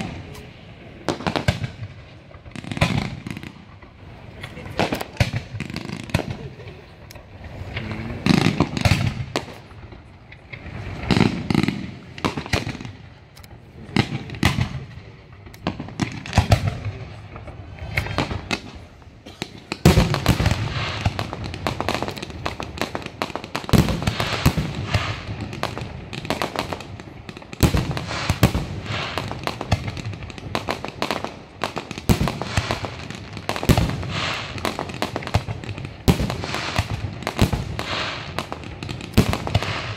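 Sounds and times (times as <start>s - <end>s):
fireworks bursts and bangs: 0.0s - 39.9s.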